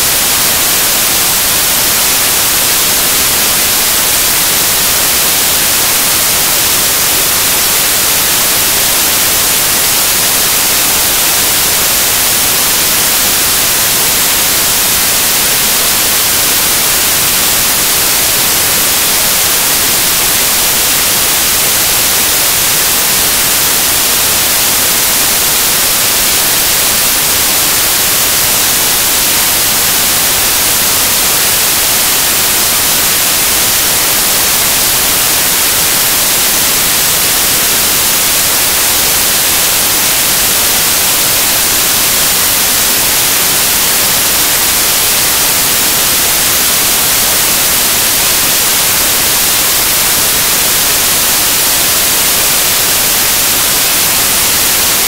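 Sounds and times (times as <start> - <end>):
static hiss: 0.0 - 55.0.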